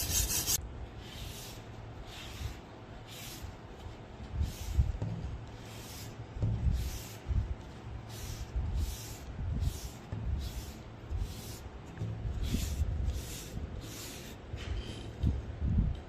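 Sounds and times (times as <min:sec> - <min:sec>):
rhythmic scrubbing strokes: 0:00.0 - 0:14.8.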